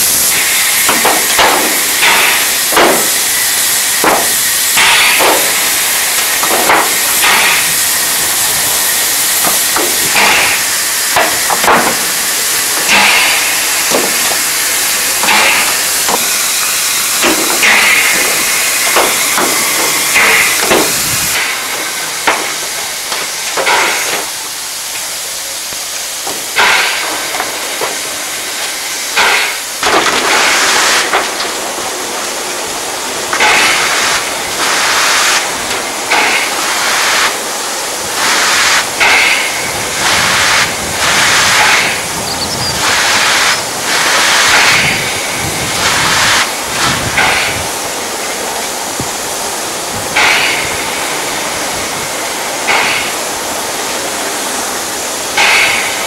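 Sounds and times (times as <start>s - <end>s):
bursts of steam: 0.0s - 56.0s
steam locomotive hissing steam: 0.0s - 56.0s.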